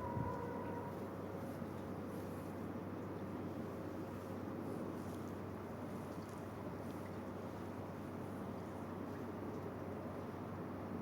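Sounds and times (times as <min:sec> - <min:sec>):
faint constant hum: 0:00.0 - 0:11.0
low rumble and hiss: 0:00.0 - 0:11.0.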